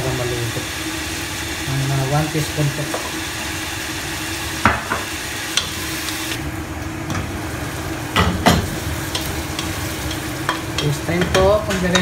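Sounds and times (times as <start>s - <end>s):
chicken sizzling in a pot: 0.0s - 12.0s.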